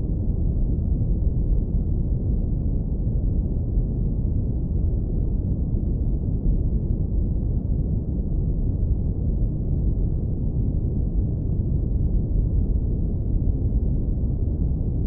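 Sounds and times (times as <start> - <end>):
low rumble brown noise: 0.0 - 15.0.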